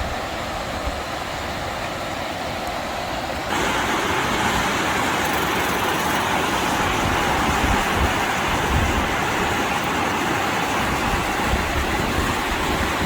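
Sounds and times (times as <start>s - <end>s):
fast-flowing river water: 0.0s - 13.0s.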